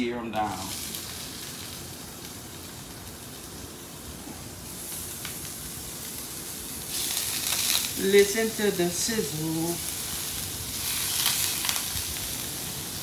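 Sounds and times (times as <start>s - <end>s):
fish sizzling in butter: 0.5s - 13.0s.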